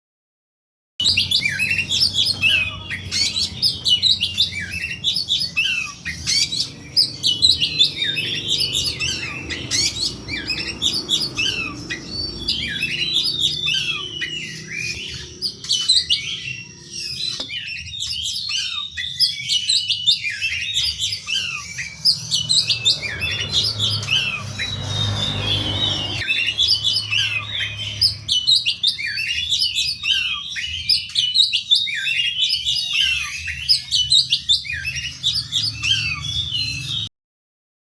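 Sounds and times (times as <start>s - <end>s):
bird singing sharp chirps: 1.0s - 37.1s.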